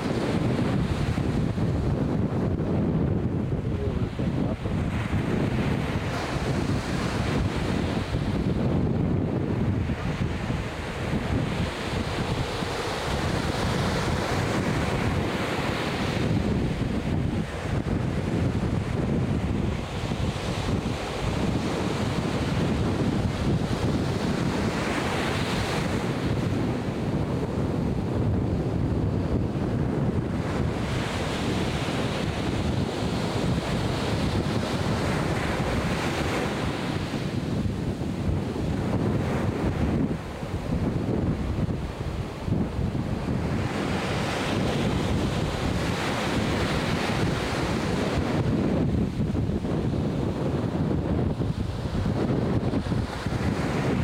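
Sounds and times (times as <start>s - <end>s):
ocean surf washing: 0.0s - 54.0s
wind buffeting microphone: 0.0s - 54.0s.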